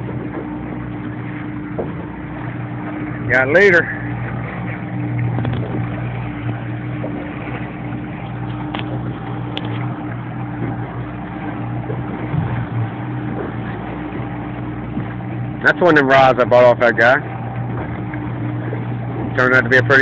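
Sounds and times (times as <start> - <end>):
boat engine humming: 0.0 - 20.0
water wash: 0.0 - 20.0.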